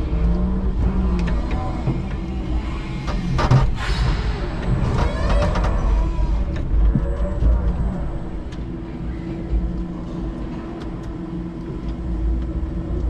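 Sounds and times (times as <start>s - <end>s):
forklift rolling rumble: 0.0s - 13.0s.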